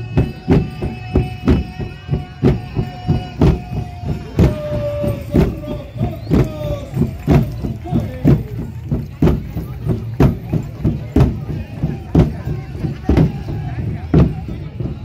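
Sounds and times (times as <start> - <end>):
drums in a march rhythm: 0.0 - 15.0.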